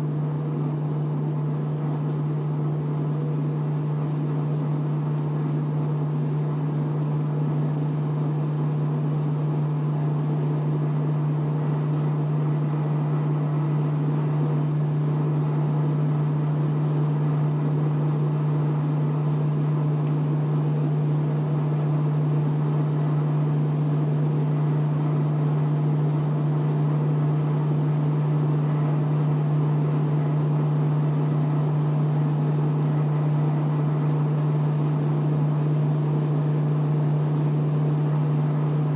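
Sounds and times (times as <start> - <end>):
clothes dryer droning: 0.0 - 38.9.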